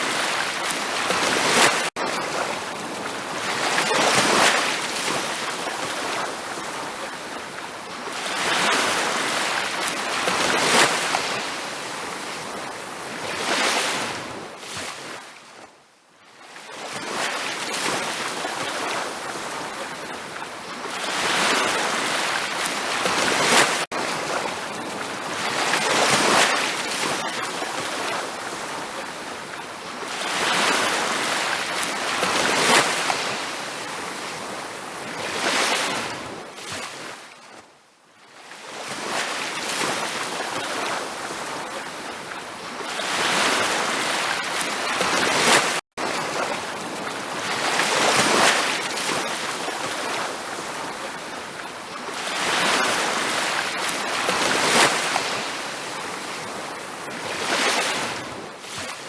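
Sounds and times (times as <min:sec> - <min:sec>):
ocean surf washing onto beach: 0:00.0 - 0:15.3, 0:16.8 - 0:37.2, 0:38.6 - 0:59.0.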